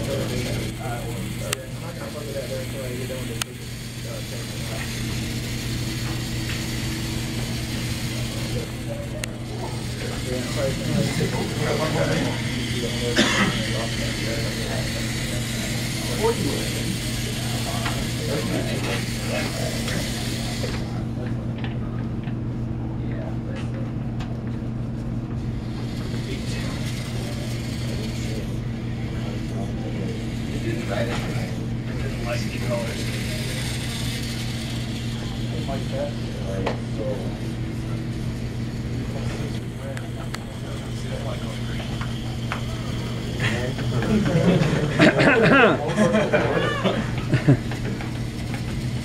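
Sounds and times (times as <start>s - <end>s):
robot motors whirring hum: 0.0s - 49.0s.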